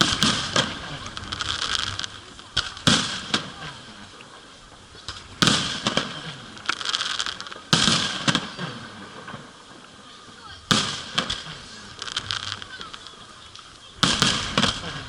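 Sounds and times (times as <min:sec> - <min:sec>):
fireworks bangs: 0:00.0 - 0:15.0
fireworks crackling trail: 0:00.0 - 0:15.0
fireworks pops: 0:00.0 - 0:15.0.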